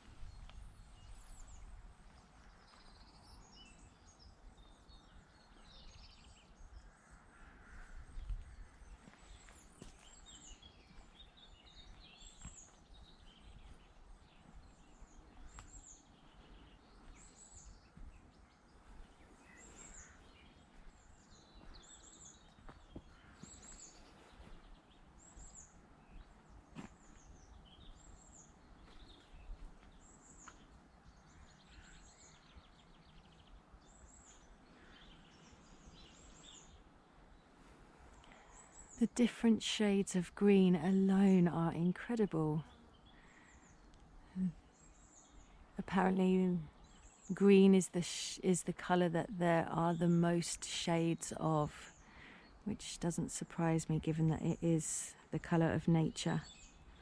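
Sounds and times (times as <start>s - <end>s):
other birds singing: 0.0s - 39.4s, 40.0s - 57.0s.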